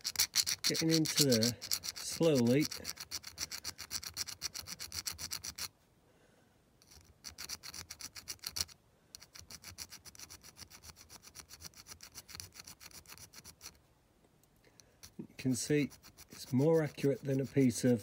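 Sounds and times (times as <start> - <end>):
file rasping on metal: 0.0 - 5.7, 6.9 - 13.8, 15.0 - 18.0.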